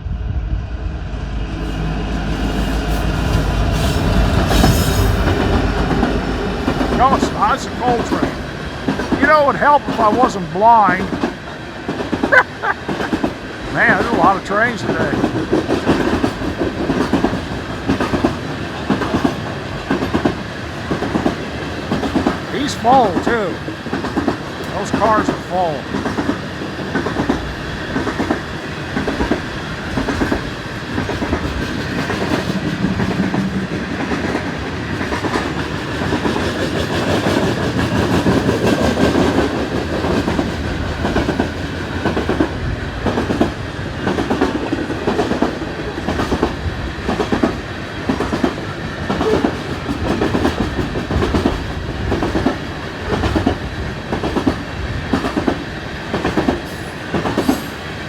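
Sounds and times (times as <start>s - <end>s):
train wheels clacking over rail joints: 2.8s - 57.8s.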